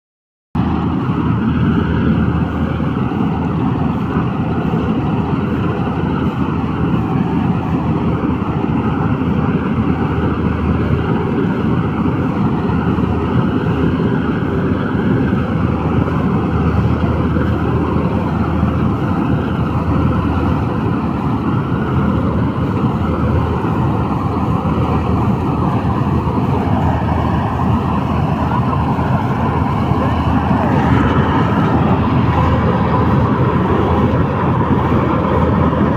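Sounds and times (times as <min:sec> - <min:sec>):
combine harvester droning: 0:00.6 - 0:35.9.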